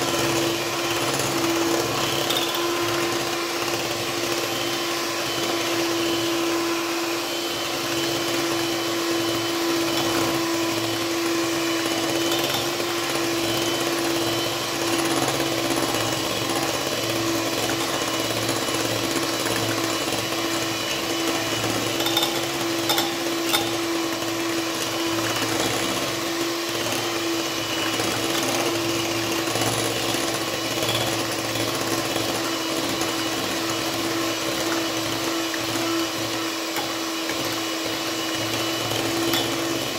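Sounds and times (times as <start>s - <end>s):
hand mixer whipping cream: 0.0s - 39.9s.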